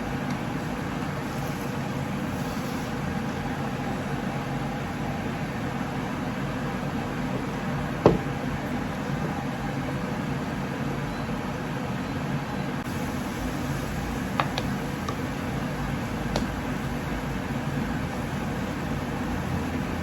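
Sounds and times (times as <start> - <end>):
kitchen appliance humming: 0.0 - 11.8, 12.7 - 20.0.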